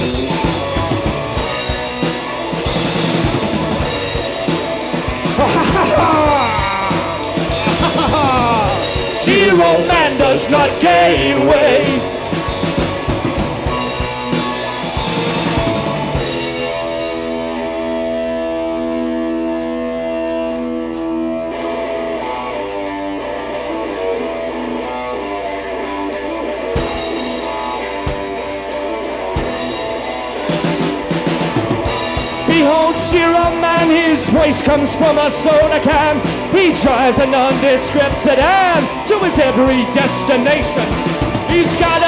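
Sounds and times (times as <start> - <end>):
bass guitar: 0.0 - 42.0
drum kit: 0.0 - 42.0
electric guitar: 0.0 - 42.0.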